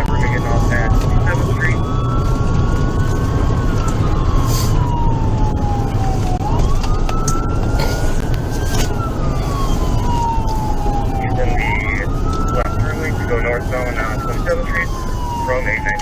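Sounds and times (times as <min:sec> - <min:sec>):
engine and road noise rumble: 0:00.0 - 0:16.0
police siren wailing: 0:00.0 - 0:16.0.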